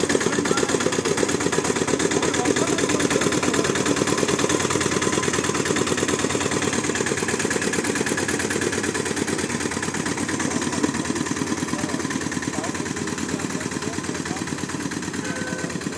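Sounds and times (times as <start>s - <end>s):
small diesel engine running: 0.0s - 15.9s.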